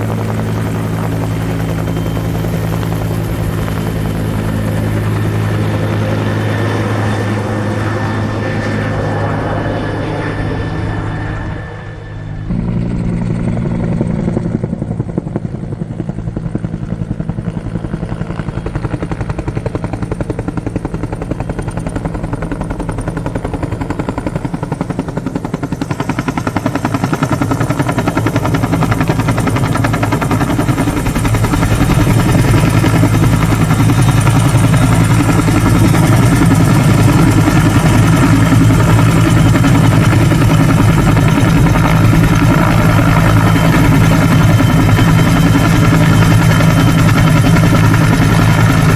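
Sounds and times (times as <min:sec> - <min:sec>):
low engine drone: 0:00.0 - 0:17.9, 0:20.3 - 0:48.9
helicopter rotors beating: 0:00.0 - 0:48.9.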